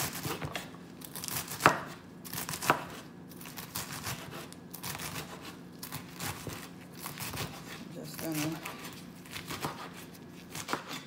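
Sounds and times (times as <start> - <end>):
knife cutting lettuce: 0.0 - 11.0.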